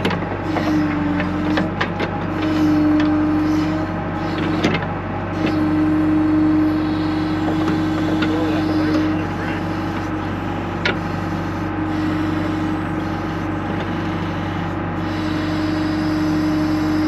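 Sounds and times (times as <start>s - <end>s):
diesel engine running under load: 0.0s - 17.0s
hydraulic whine: 0.0s - 17.0s.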